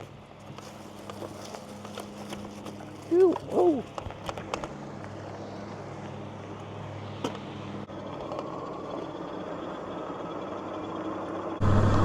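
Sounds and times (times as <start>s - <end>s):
electric bike motor hum: 0.0s - 12.0s.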